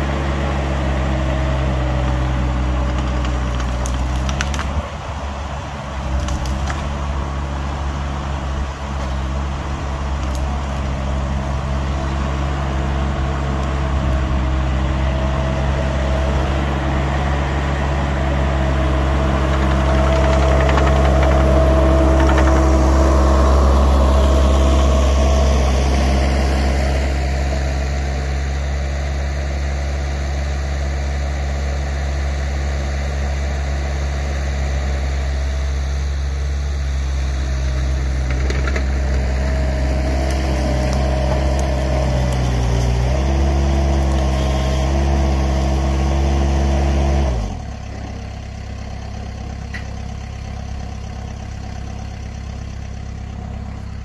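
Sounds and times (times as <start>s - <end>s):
engine running at high throttle: 0.0s - 54.0s
low engine hum: 0.0s - 54.0s.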